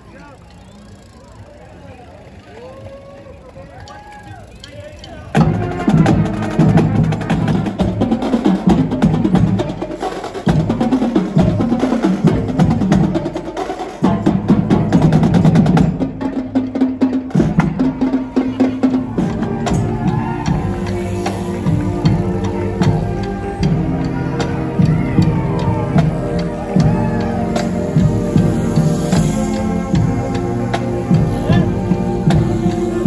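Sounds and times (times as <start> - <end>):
music with busy drum beat: 5.0 - 33.0.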